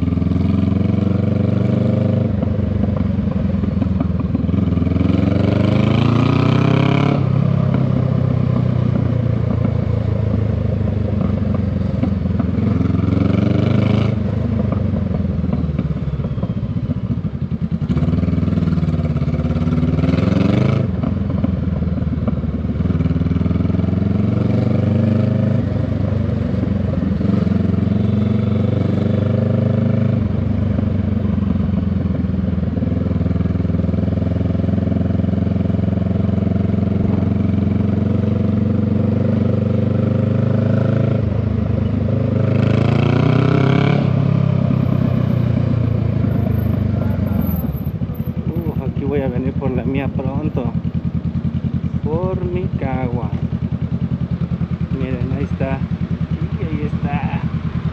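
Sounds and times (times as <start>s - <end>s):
motorcycle exhaust revving: 0.0s - 57.9s.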